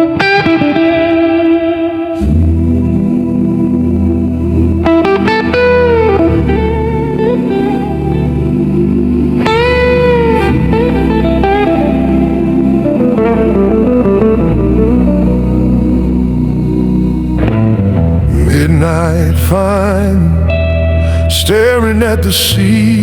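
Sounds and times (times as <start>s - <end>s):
low musical backing: 0.0s - 23.0s
slow blues lead guitar: 0.0s - 23.0s.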